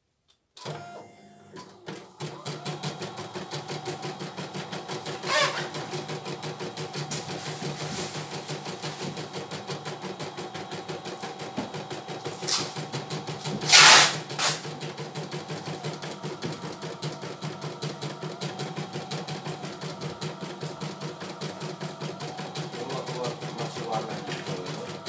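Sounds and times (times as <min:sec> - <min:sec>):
motor hum: 0:00.6 - 0:25.0
embroidery machine needle stitching: 0:01.5 - 0:25.0.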